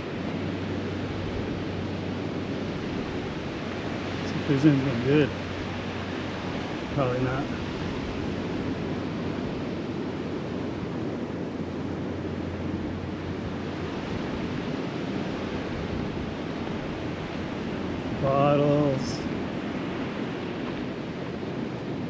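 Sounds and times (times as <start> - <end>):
surf breaking on a beach: 0.0 - 22.0
wind rumbling on microphone: 0.0 - 22.0.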